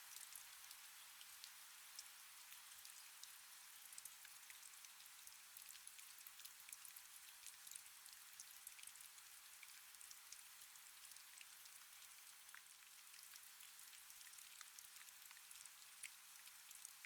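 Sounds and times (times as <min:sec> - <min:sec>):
faint rain: 0:00.0 - 0:17.0.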